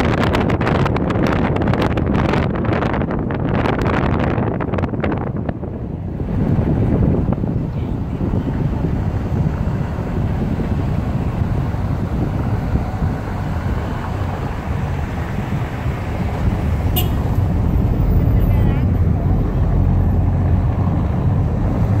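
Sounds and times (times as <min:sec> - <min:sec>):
car driving rumble: 0:00.0 - 0:22.0
wind rushing over microphone: 0:00.0 - 0:22.0.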